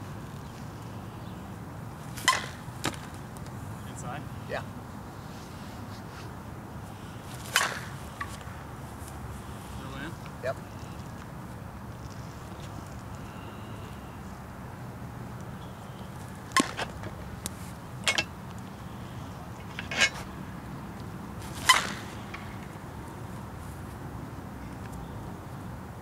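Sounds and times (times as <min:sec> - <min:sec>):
low outdoor background noise: 0:00.0 - 0:26.0.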